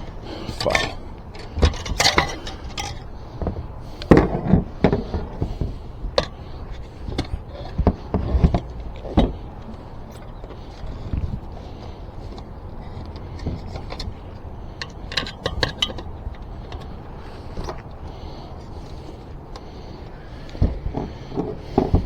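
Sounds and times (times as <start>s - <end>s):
tire knocking and scraping on rim: 0.0s - 22.0s.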